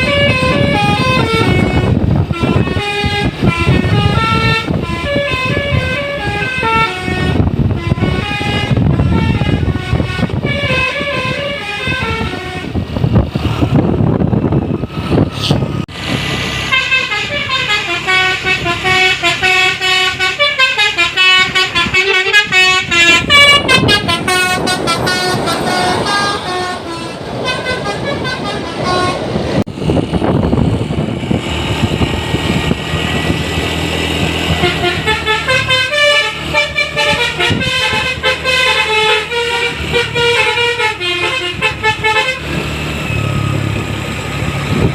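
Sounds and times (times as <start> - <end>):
bus horns playing melodies: 0.0 - 13.8, 15.4 - 29.7, 31.8 - 44.9
bus engines rumbling: 0.0 - 44.9.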